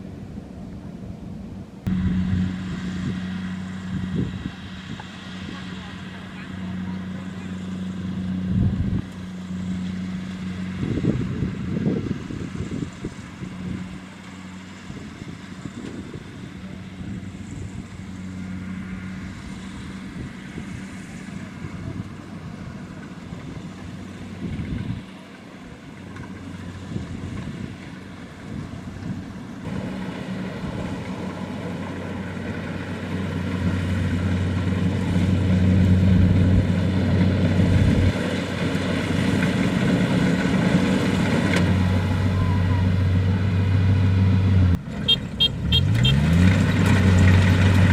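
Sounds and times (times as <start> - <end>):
combine harvester engine hum: 0.0 - 47.9.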